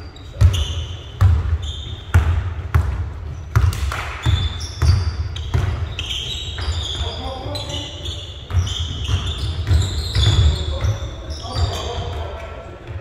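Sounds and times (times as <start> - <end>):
sneaker squeaks: 0.0 - 12.6
basketball bouncing on court: 0.2 - 13.0.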